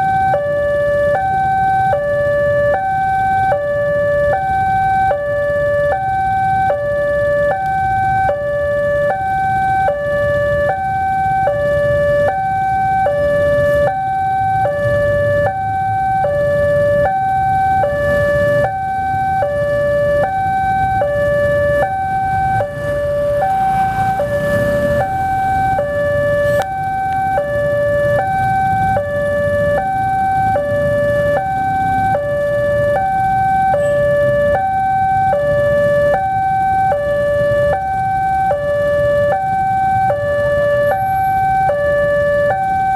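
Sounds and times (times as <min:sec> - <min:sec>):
low traffic rumble: 0:00.0 - 0:42.9
two-tone level crossing alarm: 0:00.0 - 0:42.9.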